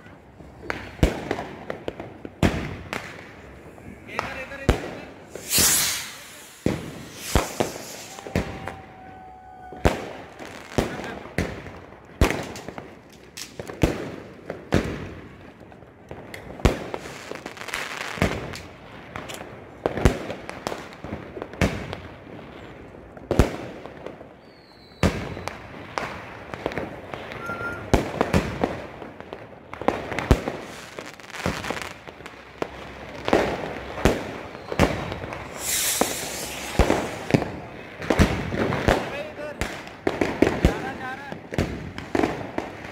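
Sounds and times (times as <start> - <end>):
fireworks and firecrackers banging: 0.0 - 42.9.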